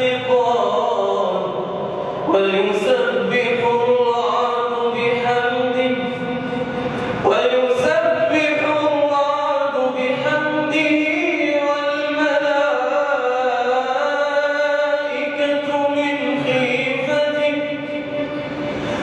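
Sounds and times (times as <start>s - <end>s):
man chanting melodic recitation: 0.0s - 18.9s.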